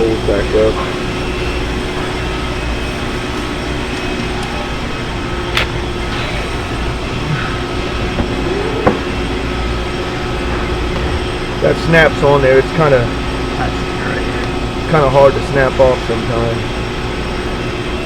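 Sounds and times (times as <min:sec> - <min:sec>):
industrial machinery droning: 0:00.0 - 0:18.0.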